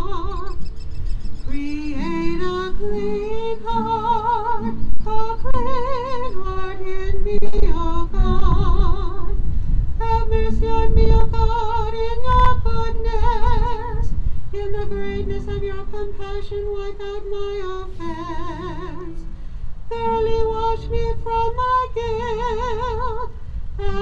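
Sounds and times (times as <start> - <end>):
acoustic guitar accompaniment: 0.0 - 24.0
woman singing a slow hymn: 0.0 - 24.0.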